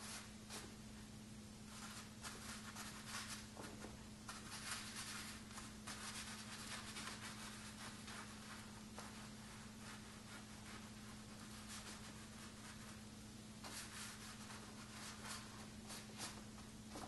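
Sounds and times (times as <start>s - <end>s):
steady low hum: 0.0s - 17.0s
ink brush scratching on paper: 1.7s - 13.0s, 13.6s - 16.4s.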